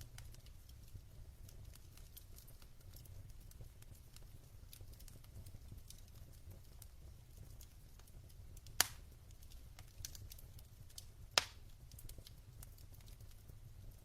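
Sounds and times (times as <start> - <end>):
loud fire pops: 0.0 - 14.0
wood fire crackling: 0.0 - 14.0.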